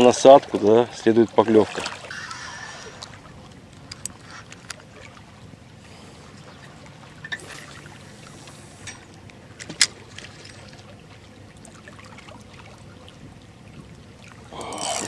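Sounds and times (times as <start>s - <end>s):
water lapping and trickling: 0.0s - 15.0s.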